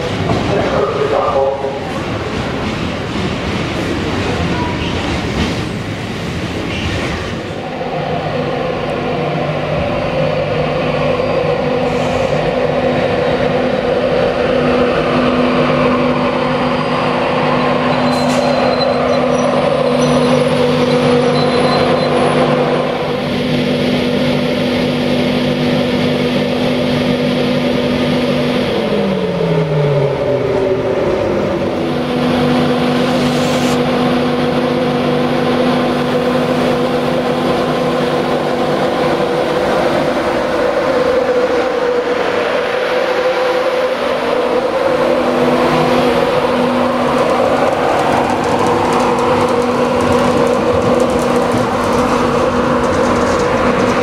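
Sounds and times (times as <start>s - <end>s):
train mechanical hum: 0.0s - 54.0s.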